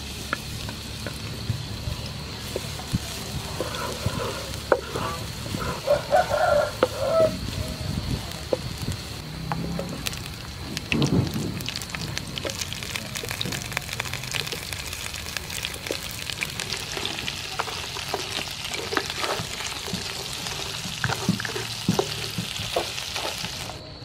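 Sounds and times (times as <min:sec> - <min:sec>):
prawns sizzling in hot oil: 0:00.0 - 0:23.8.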